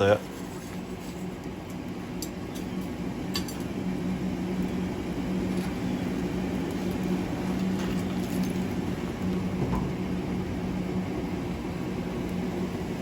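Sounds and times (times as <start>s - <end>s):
forge humming: 0.0s - 13.0s.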